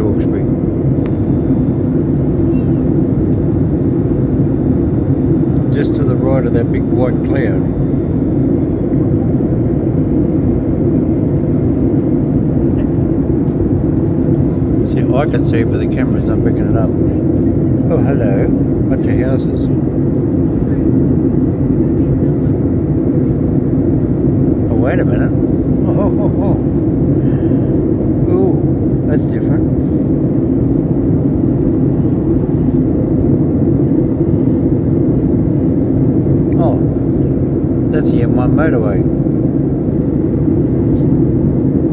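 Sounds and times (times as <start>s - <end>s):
airliner cabin engine rush: 0.0s - 41.9s.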